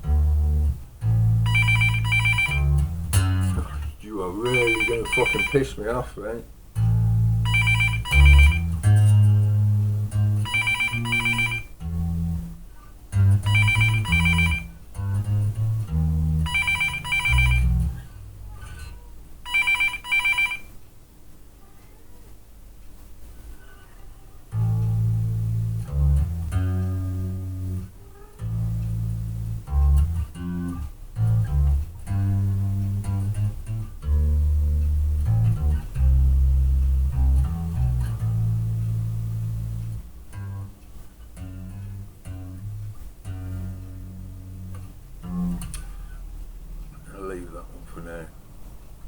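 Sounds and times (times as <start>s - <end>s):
electric bass guitar: 0.0s - 5.3s, 6.7s - 19.0s, 24.5s - 47.1s.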